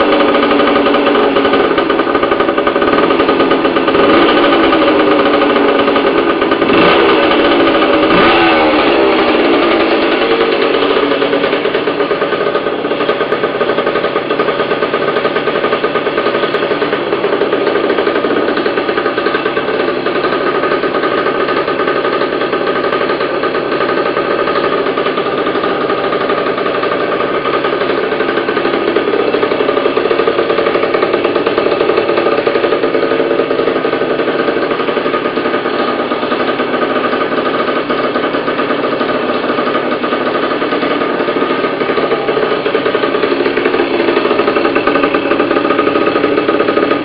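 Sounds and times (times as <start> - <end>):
two-stroke motorcycle engine running: 0.0 - 47.0.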